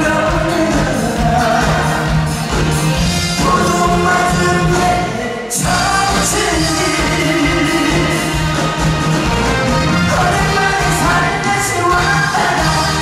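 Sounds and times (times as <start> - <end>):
man singing into a microphone: 0.0 - 2.6, 3.3 - 8.4, 10.1 - 13.0
band playing: 0.0 - 13.0.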